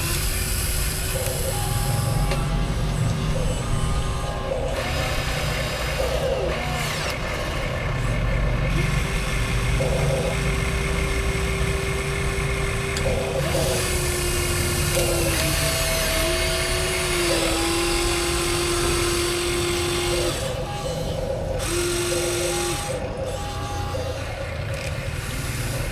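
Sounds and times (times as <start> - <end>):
electric motors and gearboxes whining: 0.0 - 25.9.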